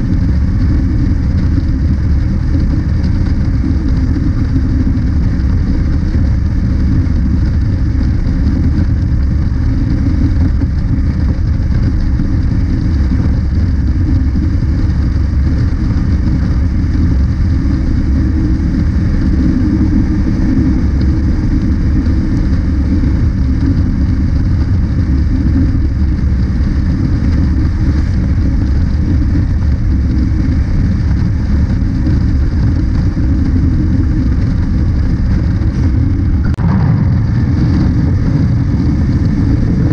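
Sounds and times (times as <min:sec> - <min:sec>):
motorcycle engine cruising: 0:00.0 - 0:39.9
wind rush over microphone: 0:00.0 - 0:39.9.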